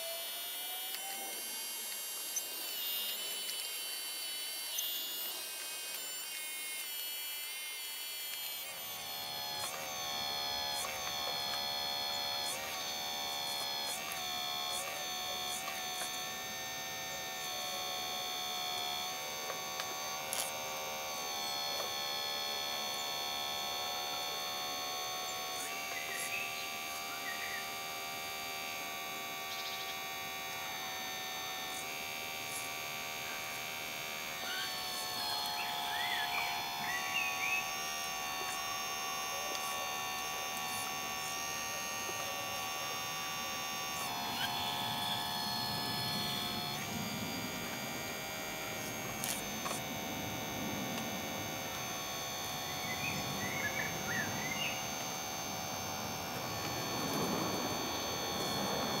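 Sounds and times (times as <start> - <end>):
hydraulic pump whining: 0.0 - 59.0.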